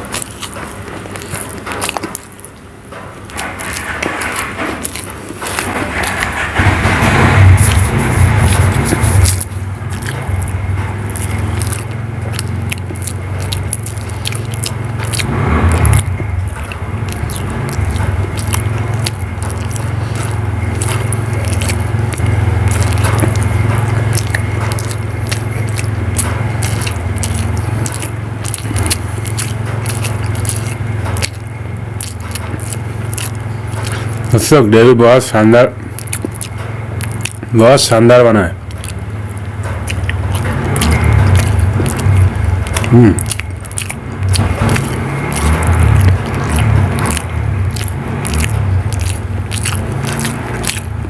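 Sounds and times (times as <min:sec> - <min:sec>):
mouth clicks: 0:00.0 - 0:51.0
person chewing: 0:00.0 - 0:51.0
steady low hum: 0:00.0 - 0:51.0.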